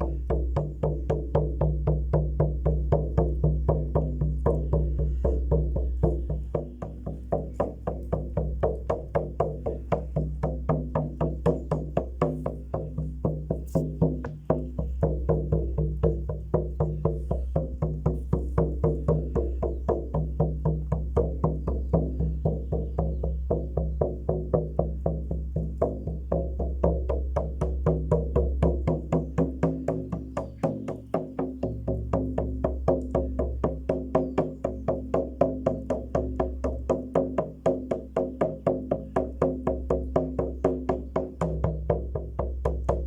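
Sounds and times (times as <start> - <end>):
hand drum beating: 0.0 - 43.0.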